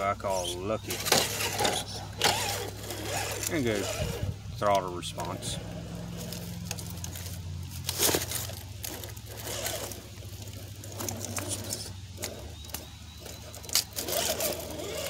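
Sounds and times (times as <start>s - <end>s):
electric motor whirring: 0.0s - 15.0s
tyres scraping on stones: 0.0s - 15.0s.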